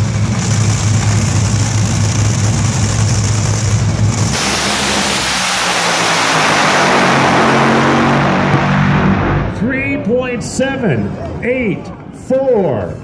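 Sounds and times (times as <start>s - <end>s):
dragster engines full throttle blast: 0.0s - 10.8s
dragster engines idling: 0.0s - 13.0s.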